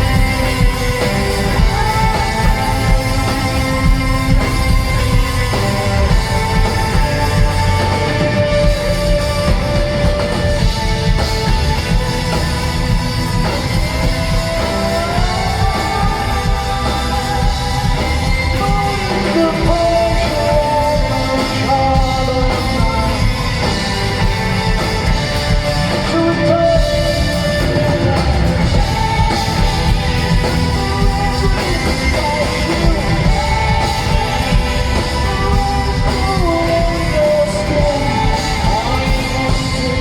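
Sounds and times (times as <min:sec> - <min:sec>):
live rock band playing: 0:00.0 - 0:40.0
person singing long gliding notes: 0:00.0 - 0:40.0.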